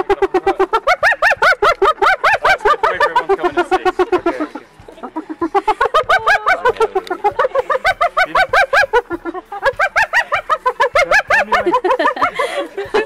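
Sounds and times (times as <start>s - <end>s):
hyenas giggling: 0.0s - 13.0s.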